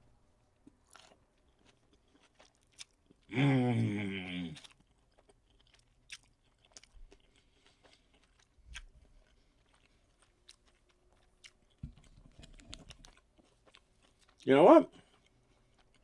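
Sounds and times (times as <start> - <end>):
chewing food: 0.4 - 16.0.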